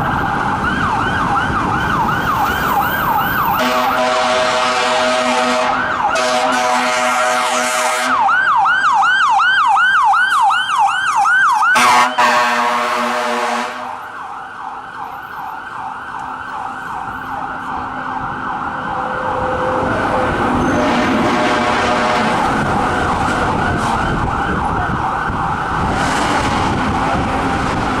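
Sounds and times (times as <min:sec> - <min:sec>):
engine and road noise: 0:00.0 - 0:28.0
fire truck siren yelping: 0:00.0 - 0:28.0.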